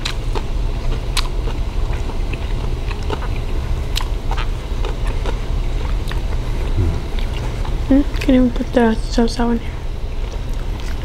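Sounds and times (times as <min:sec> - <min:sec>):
close chewing: 0:00.0 - 0:08.4, 0:10.1 - 0:11.0
steady low hum: 0:00.0 - 0:11.0.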